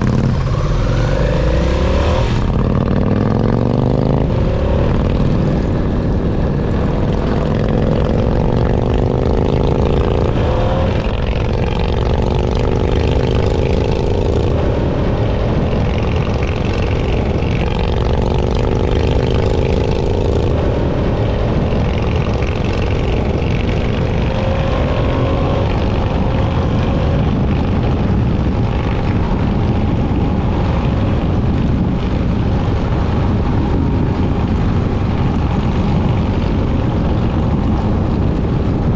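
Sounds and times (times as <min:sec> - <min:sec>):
heavy low rumble: 0:00.0 - 0:38.9
motorcycle engine running: 0:00.0 - 0:38.9.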